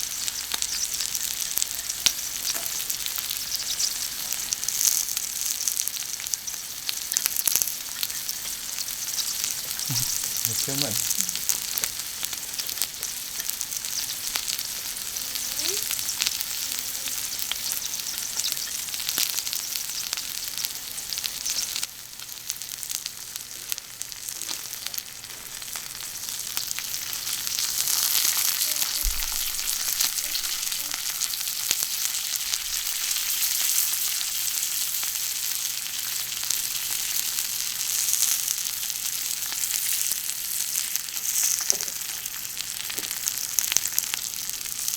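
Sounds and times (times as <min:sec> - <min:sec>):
food sizzling on griddle: 0:00.0 - 0:44.9.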